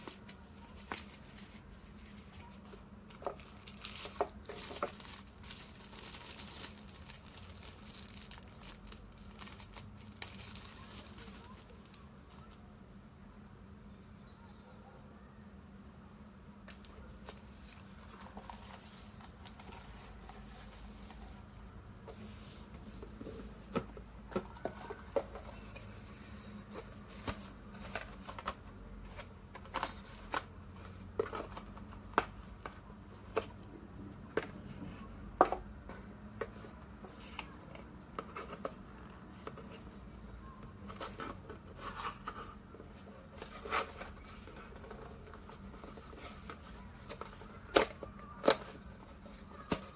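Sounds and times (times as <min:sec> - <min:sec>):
cardboard rustling: 0:00.0 - 0:12.6, 0:17.0 - 0:33.6, 0:35.9 - 0:49.9
faint steady hum: 0:00.0 - 0:49.9.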